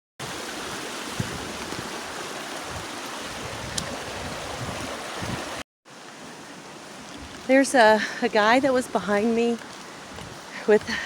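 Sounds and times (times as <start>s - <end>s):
creek water rushing: 0.2s - 11.0s.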